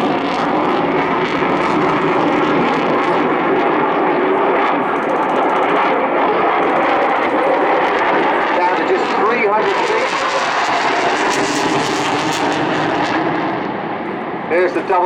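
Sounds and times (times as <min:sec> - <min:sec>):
fighter jet engine roar: 0:00.0 - 0:15.0.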